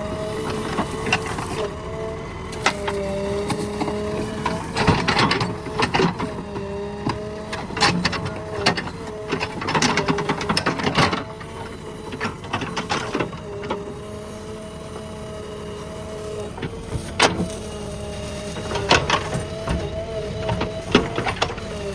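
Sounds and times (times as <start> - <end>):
backhoe engine and hydraulics whine: 0.0 - 21.9.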